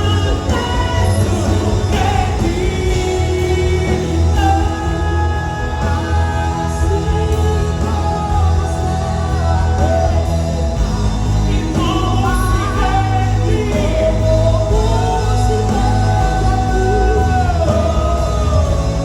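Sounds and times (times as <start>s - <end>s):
band playing worship music: 0.0s - 19.0s
person singing: 0.0s - 19.0s
steady bass line: 0.0s - 19.0s.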